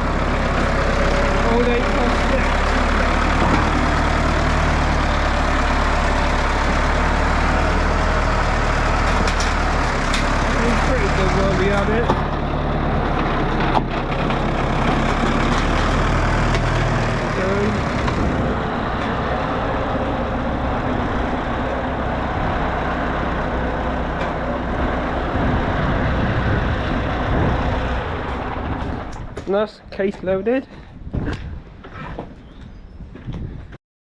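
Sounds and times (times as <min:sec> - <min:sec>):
heavy vehicle engine running: 0:00.0 - 0:32.0.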